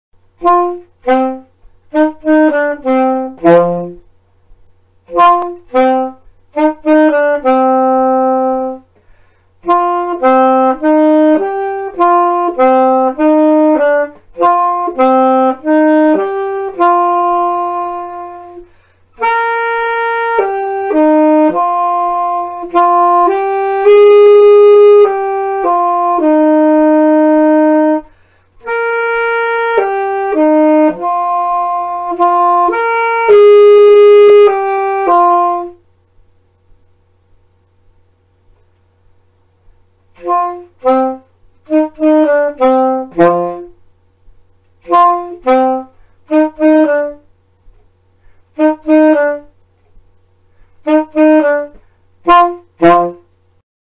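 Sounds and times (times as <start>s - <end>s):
solo saxophone melody: 0.2s - 36.0s, 38.5s - 53.6s.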